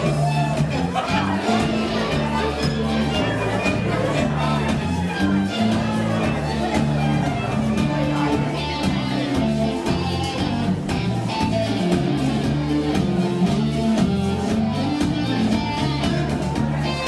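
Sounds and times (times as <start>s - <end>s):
dance band playing: 0.0s - 17.0s
guitar strumming: 0.0s - 17.0s.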